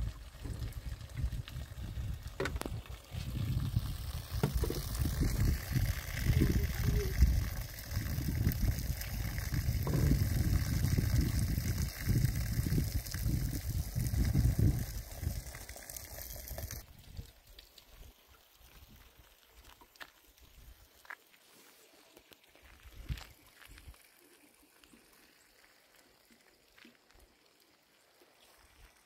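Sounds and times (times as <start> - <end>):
hose water splashing into jugs: 0.0 - 29.0.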